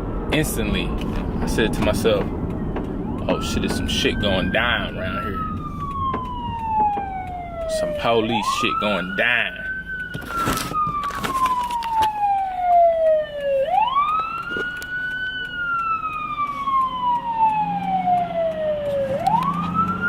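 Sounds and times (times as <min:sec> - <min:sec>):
police siren wailing: 0:00.0 - 0:20.0.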